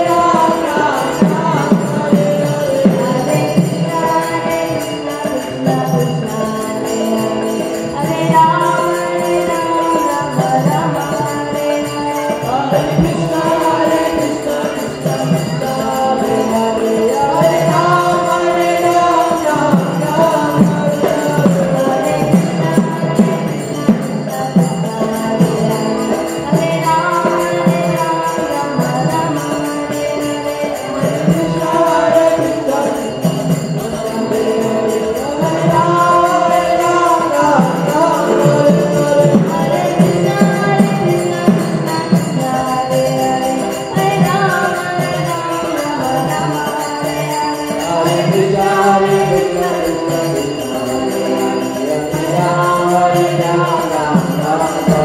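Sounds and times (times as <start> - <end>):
devotional chanting: 0.0 - 55.0
harmonium: 0.0 - 55.0
jingling hand cymbals: 0.0 - 55.0.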